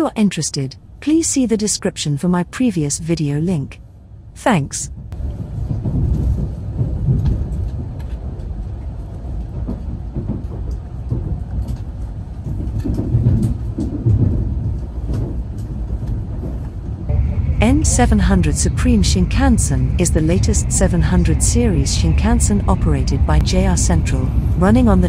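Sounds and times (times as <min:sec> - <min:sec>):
train running low rumble: 0:00.0 - 0:25.0.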